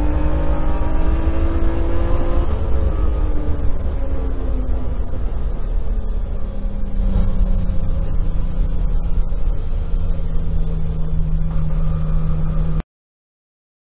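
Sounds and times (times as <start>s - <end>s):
car engine running: 0.0s - 12.8s
road and wind noise: 0.0s - 12.8s.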